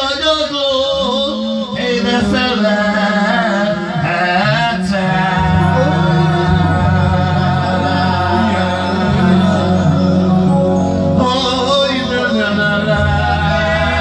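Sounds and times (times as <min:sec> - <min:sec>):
backing music: 0:00.0 - 0:14.0
man singing into a microphone: 0:00.0 - 0:14.0.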